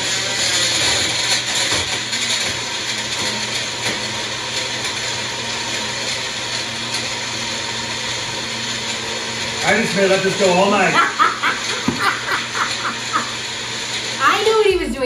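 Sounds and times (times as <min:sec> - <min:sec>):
kitchen appliance motor whirring: 0:00.0 - 0:15.0.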